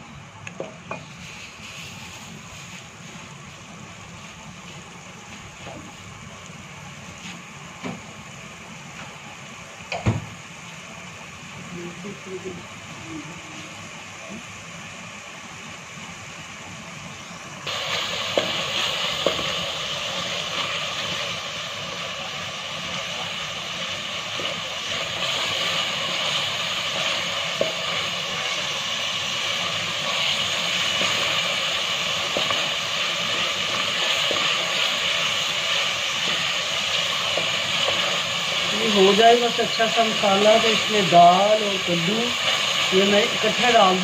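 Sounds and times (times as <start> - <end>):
spices sizzling in hot oil: 0.0 - 44.0.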